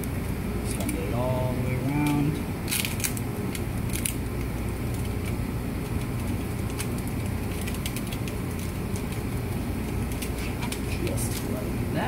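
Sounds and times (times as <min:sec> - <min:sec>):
foil and tape crinkling: 0:00.0 - 0:11.6
low background hum: 0:00.0 - 0:12.0.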